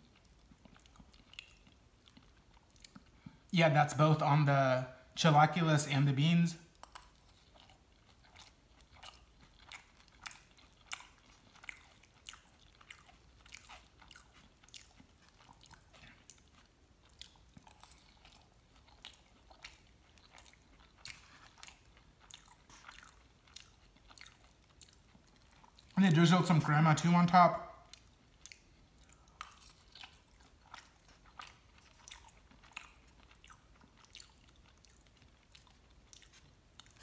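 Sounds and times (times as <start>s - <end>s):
chewing crunchy food: 0.0s - 4.4s, 5.0s - 37.0s.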